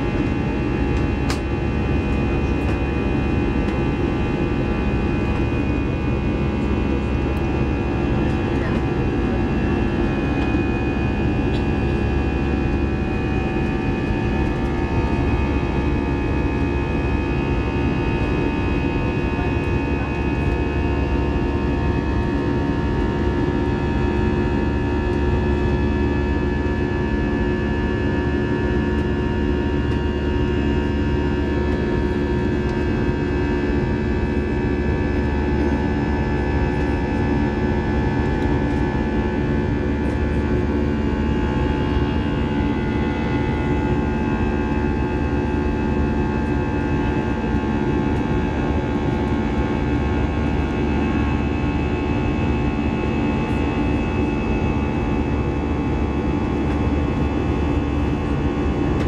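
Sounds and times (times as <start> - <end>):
jet engine rumble in cabin: 0.0 - 59.0
steady engine whining tones: 0.0 - 59.0.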